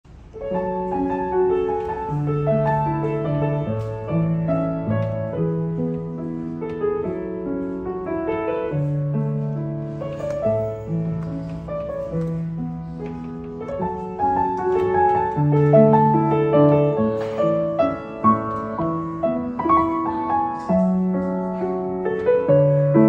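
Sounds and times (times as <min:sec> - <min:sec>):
upright piano melody: 0:00.0 - 0:23.0.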